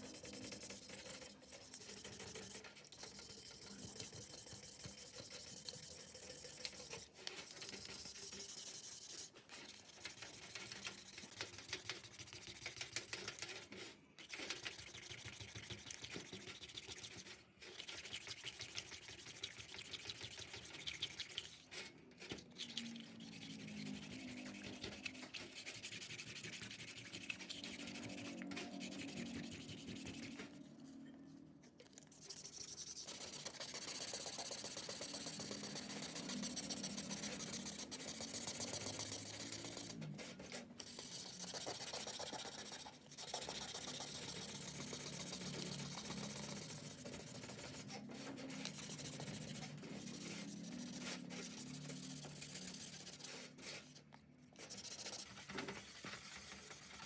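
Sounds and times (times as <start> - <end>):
hand rubbing and scraping on fan part: 0.0 - 30.8, 32.2 - 57.0.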